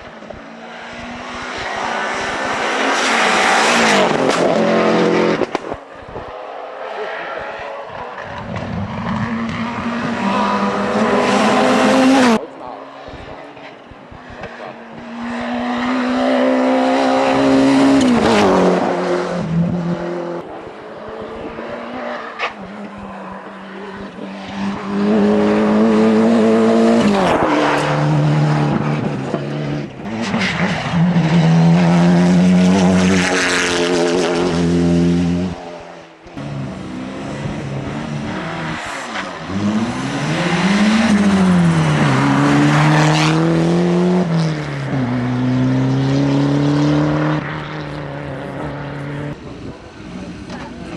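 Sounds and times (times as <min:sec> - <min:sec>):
rally car engines revving past: 0:00.0 - 0:50.9.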